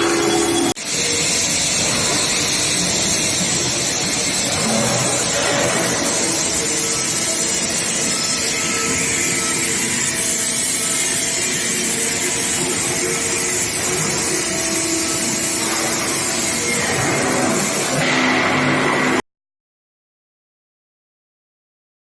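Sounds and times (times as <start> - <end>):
machinery hiss with steady tones: 0.0 - 18.0.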